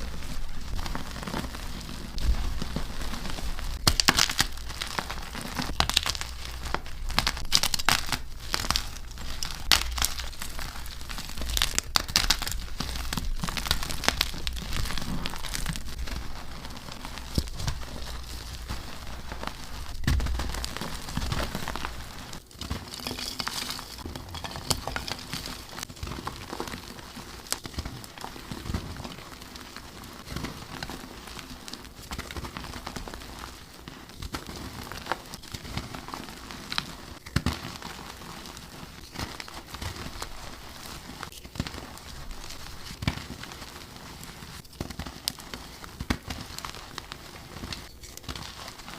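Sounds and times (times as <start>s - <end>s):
chalk crunching and crackling: 0.0s - 48.9s.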